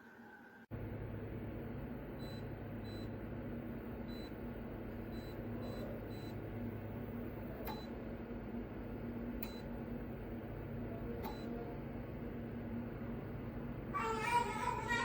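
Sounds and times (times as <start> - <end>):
space heater fan hum: 0.0 - 15.0.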